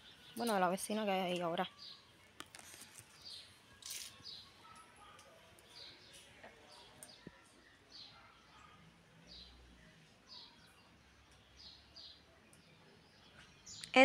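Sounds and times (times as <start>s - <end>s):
faint bird chirps: 1.5s - 14.0s.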